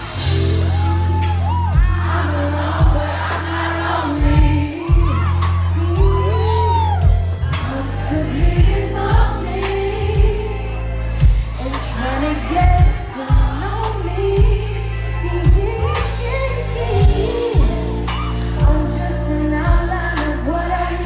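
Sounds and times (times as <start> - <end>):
band with heavy bass and drums: 0.0 - 21.0
woman singing: 1.9 - 21.0.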